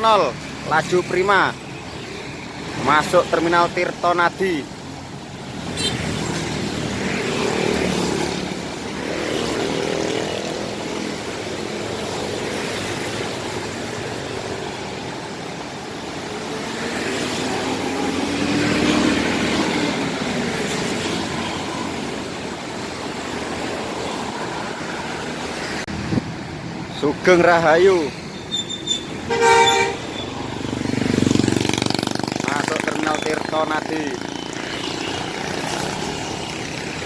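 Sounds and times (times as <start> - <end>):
buses driving past: 4.5 - 37.0.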